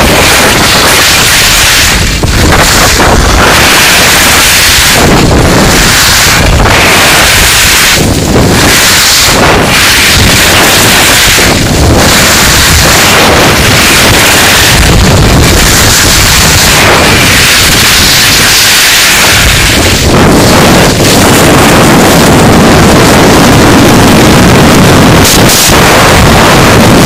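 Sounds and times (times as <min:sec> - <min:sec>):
skis sliding over snow: 0:00.0 - 0:27.0
wind buffeting microphone: 0:00.0 - 0:27.0.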